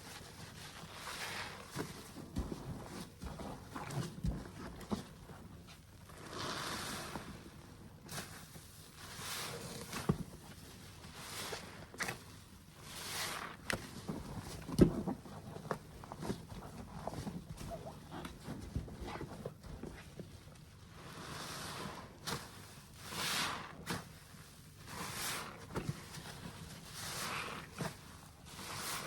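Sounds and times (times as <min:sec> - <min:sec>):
soapy sponge squelching: 0:00.0 - 0:04.7, 0:05.3 - 0:20.1, 0:20.9 - 0:29.0.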